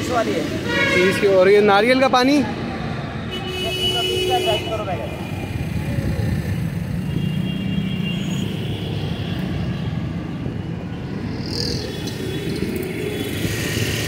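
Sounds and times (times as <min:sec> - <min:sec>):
rumble of passing vehicles: 0:00.0 - 0:14.0.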